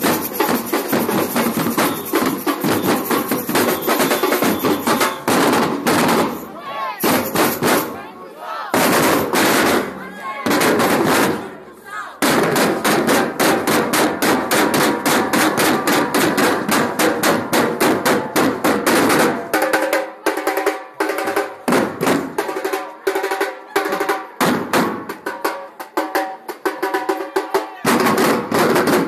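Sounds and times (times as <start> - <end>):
drum ensemble playing: 0.0 - 8.1, 8.7 - 11.5, 12.2 - 29.0.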